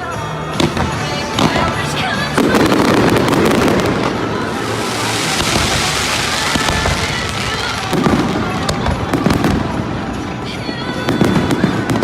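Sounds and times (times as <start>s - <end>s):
fireworks crackling: 0.0s - 12.0s
heavy firework bangs: 0.6s - 10.3s.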